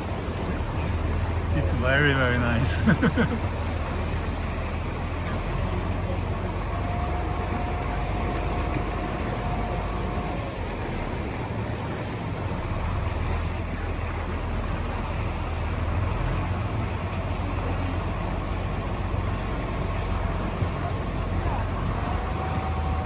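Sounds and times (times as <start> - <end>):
boat engine humming: 0.0 - 23.0
rushing water and air: 0.0 - 23.0.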